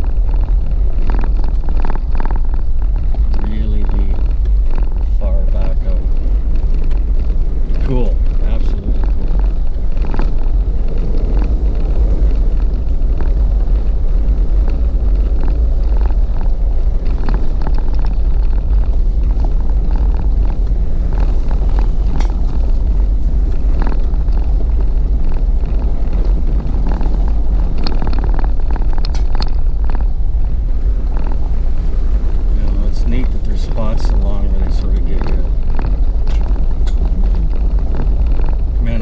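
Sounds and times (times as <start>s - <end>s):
vehicle rumble on rough road: 0.0s - 39.0s.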